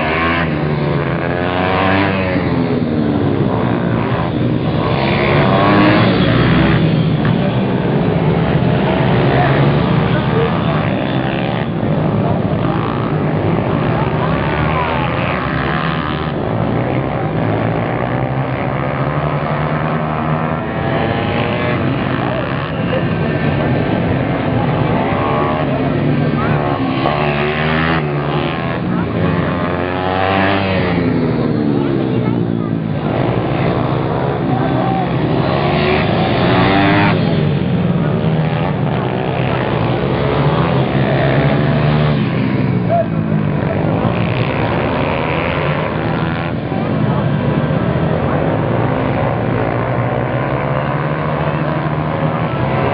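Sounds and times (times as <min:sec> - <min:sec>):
small motorcycle engines racing: 0:00.0 - 0:52.9.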